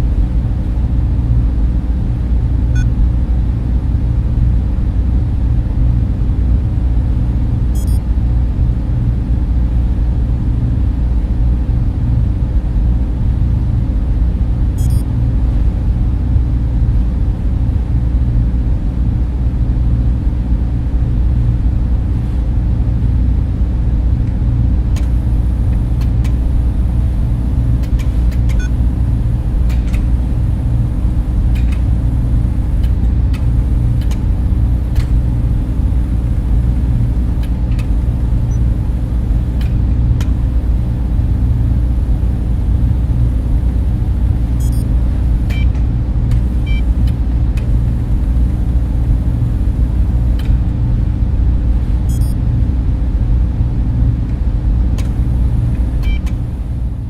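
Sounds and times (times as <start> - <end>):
server cooling fans rushing: 0.0 - 57.0.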